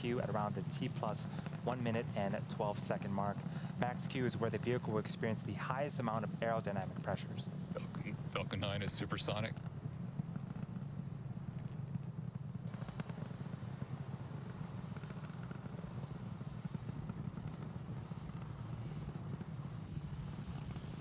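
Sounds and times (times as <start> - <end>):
rocket engine rumble: 0.0 - 21.0.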